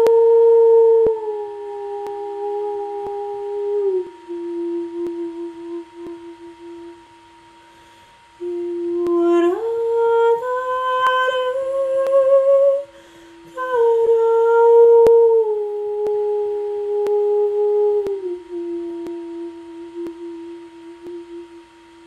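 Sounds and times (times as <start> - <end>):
woman humming: 0.0 - 7.2, 8.4 - 22.0.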